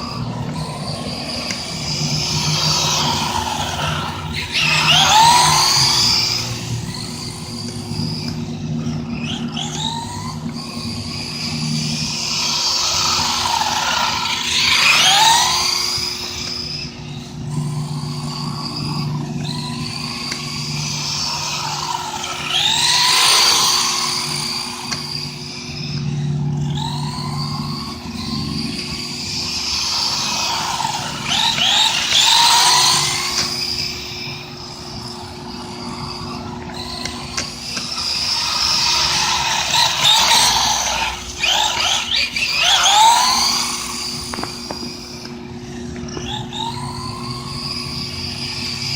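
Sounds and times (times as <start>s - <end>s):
electric motor whining: 0.0s - 48.9s.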